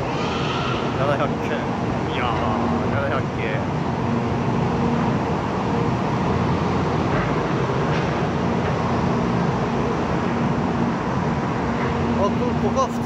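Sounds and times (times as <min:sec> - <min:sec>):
air-conditioning hum: 0:00.0 - 0:13.0.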